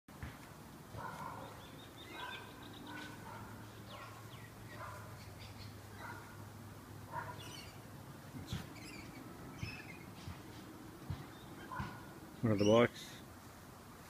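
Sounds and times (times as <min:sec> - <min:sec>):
birds chirping faintly: 0:00.8 - 0:13.5.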